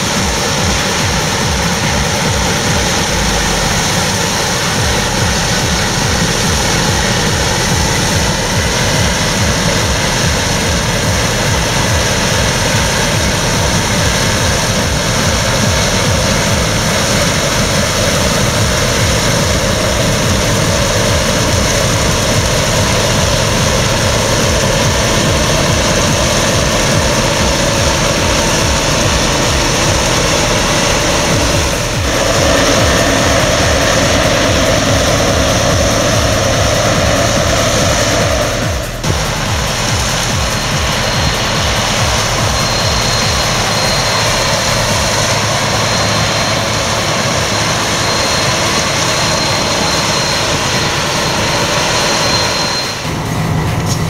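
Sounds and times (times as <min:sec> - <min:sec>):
combine harvester drone: 0:00.0 - 0:54.0.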